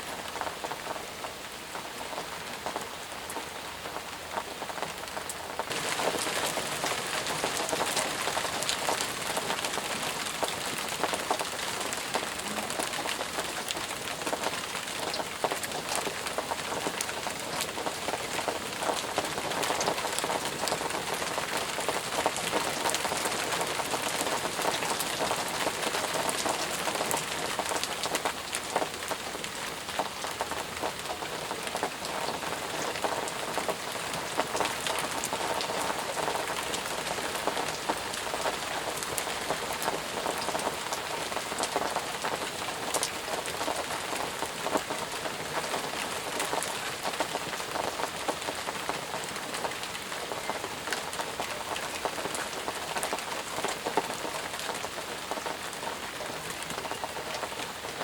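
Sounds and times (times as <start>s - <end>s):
intense rain falling: 0.0s - 58.0s.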